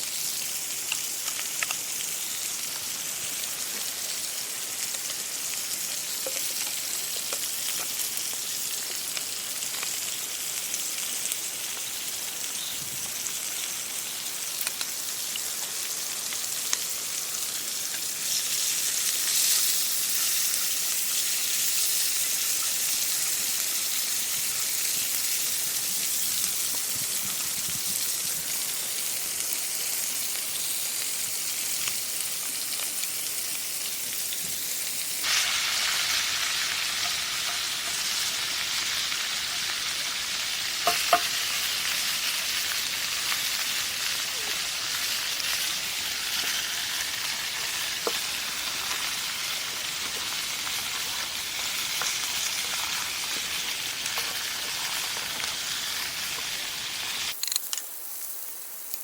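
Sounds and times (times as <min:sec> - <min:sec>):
food frying in hot oil: 0:00.0 - 0:57.4
oil popping and crackling: 0:00.0 - 0:57.4.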